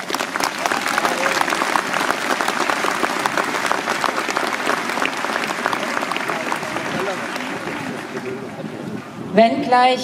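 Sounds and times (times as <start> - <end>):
large crowd applauding: 0.0 - 9.0.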